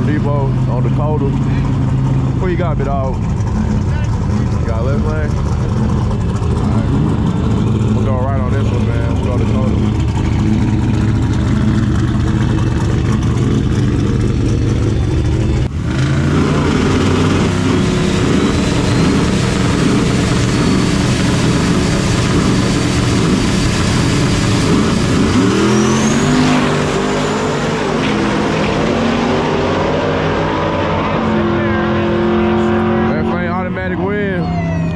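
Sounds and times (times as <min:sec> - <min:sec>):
truck engines revving: 0:00.0 - 0:34.9.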